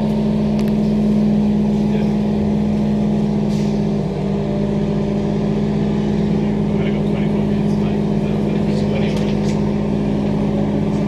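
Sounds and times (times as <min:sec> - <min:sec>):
electric train hum: 0:00.0 - 0:11.0
wheels rumbling on rails: 0:00.0 - 0:11.0.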